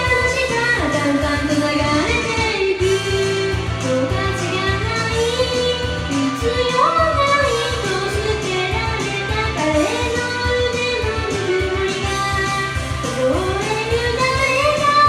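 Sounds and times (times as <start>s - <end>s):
karaoke backing track with drums: 0.0s - 15.0s
woman singing pop ballad: 0.0s - 15.0s.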